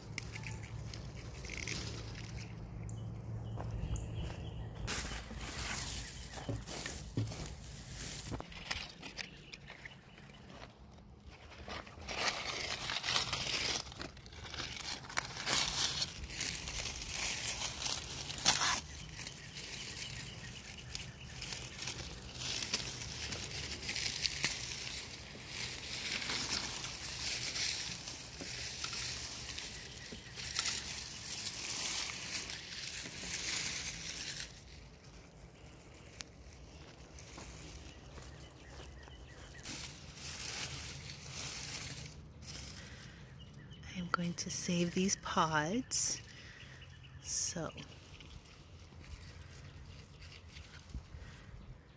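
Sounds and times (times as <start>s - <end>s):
rustling and tearing leafy stems: 0.0s - 51.8s.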